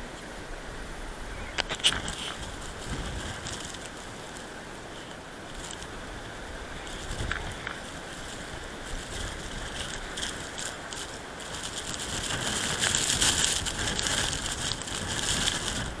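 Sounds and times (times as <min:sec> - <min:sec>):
wind blowing across microphone: 0:00.0 - 0:16.0
hiss of driven snow: 0:01.8 - 0:16.0.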